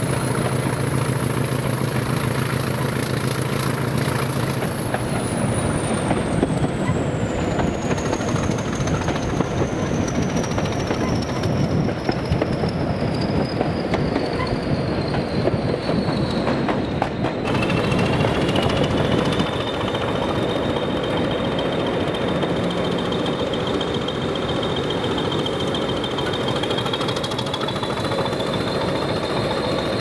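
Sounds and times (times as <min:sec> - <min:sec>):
diesel locomotive running: 0:00.0 - 0:30.0.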